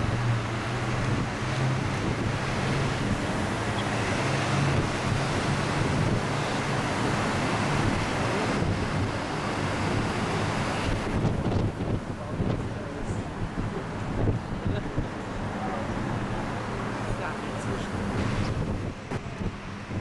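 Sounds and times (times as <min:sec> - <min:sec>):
low bus engine hum: 0:00.0 - 0:20.0
wind rushing over microphone: 0:00.0 - 0:20.0.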